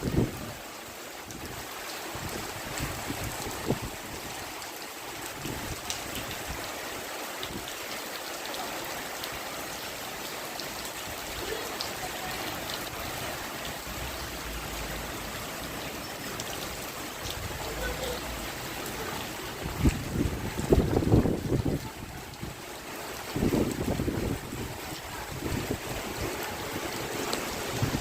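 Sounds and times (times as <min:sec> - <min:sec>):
drips and splashes: 0:00.0 - 0:28.0
rainwater flowing: 0:00.0 - 0:28.0.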